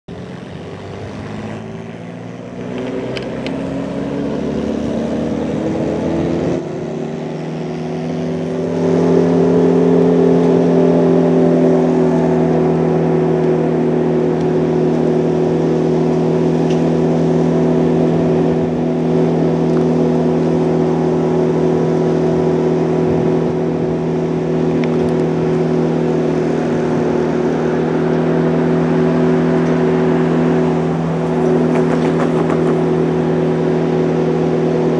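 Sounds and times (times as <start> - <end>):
locomotive diesel engine: 0.1 - 34.9.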